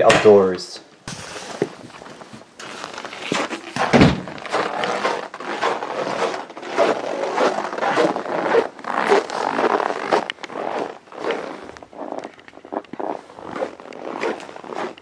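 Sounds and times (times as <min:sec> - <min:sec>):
footsteps crunching in snow: 0:01.0 - 0:15.0.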